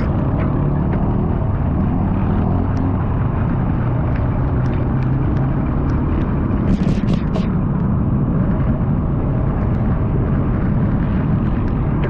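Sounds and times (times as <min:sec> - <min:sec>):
bicycle road noise: 0:00.0 - 0:12.0
wind rumble: 0:00.0 - 0:12.0.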